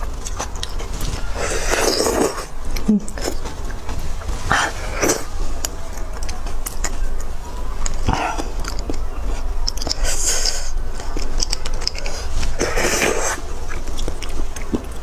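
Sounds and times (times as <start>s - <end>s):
wet sucking and chewing: 0.0s - 15.0s.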